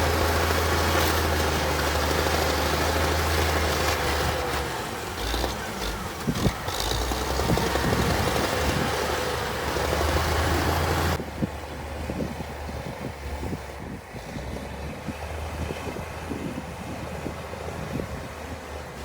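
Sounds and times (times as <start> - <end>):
diesel machinery engine rumble: 0.0 - 19.0.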